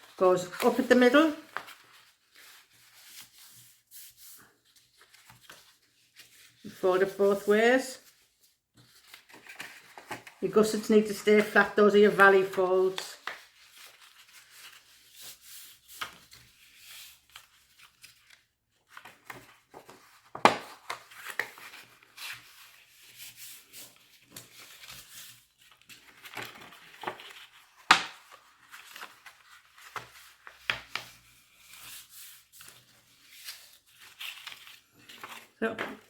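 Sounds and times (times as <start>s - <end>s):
card stock folding and rustling: 0.0s - 36.0s.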